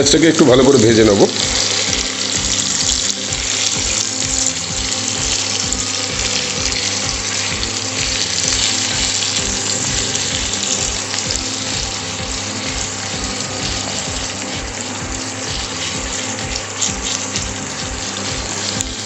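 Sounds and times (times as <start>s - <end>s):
onions sizzling in oil: 0.0s - 19.0s
soft music beat: 0.0s - 19.0s.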